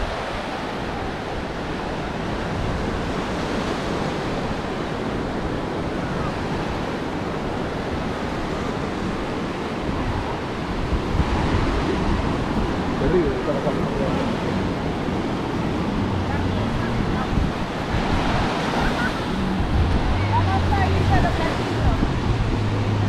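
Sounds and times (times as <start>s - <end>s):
ocean surf washing ashore: 0.0s - 23.0s
wind buffeting microphone: 0.0s - 23.0s.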